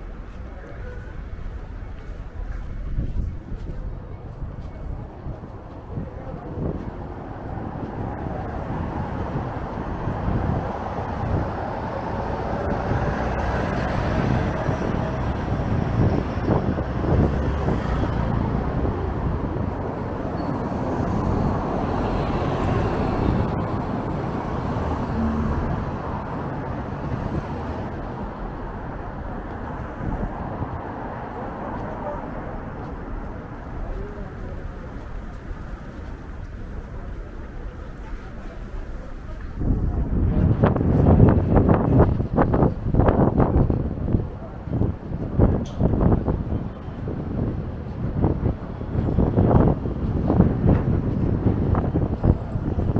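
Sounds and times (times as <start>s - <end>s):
street traffic passing: 0.0s - 52.9s
wind rumbling on microphone: 0.0s - 52.9s.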